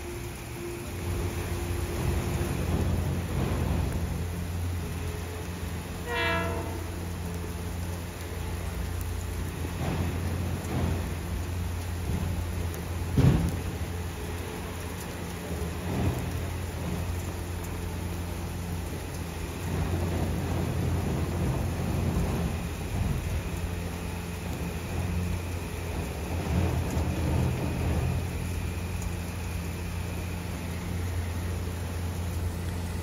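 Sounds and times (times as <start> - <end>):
rain: 0.0 - 33.0
train rumbling: 0.0 - 33.0.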